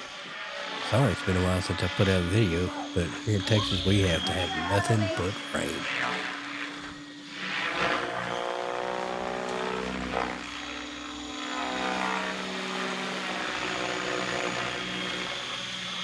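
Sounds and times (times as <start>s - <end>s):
rc helicopter motor whine: 0.0s - 5.2s, 5.9s - 16.0s.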